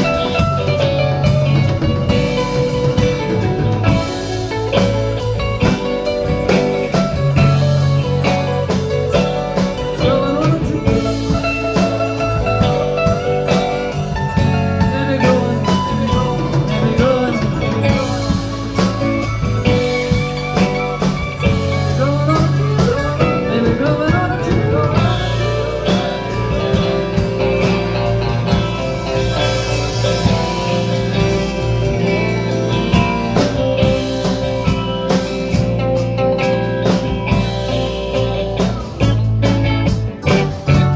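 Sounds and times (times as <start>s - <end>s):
lead guitar bending notes: 0.0s - 40.9s
live rock band playing: 0.0s - 40.9s.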